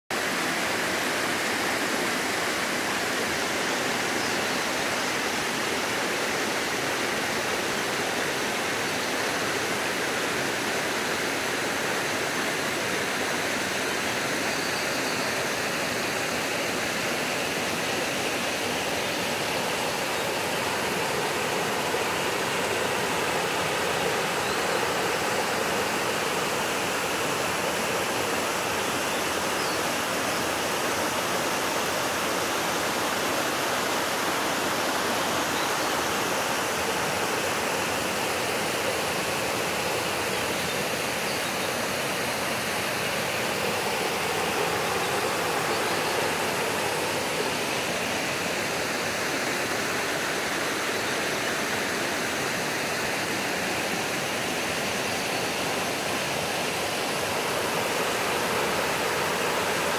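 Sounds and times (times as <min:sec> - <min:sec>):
stream rushing over rocks: 0:00.1 - 0:59.9.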